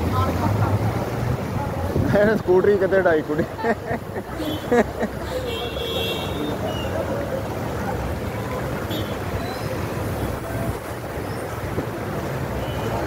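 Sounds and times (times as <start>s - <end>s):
floodwater flowing: 0.0s - 13.0s.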